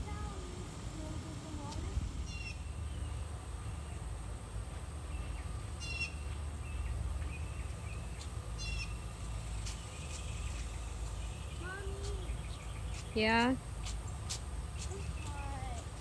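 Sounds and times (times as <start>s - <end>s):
low rumble: 0.0s - 12.9s.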